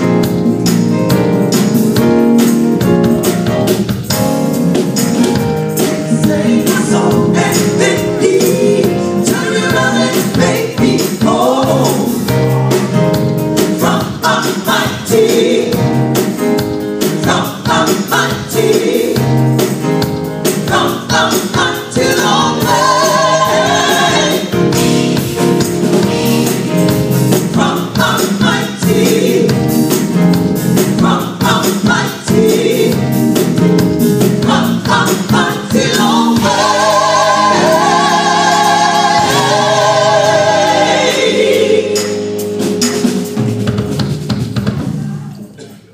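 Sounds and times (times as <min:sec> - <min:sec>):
live band playing: 0:00.0 - 0:45.6
gospel choir singing: 0:05.1 - 0:43.1.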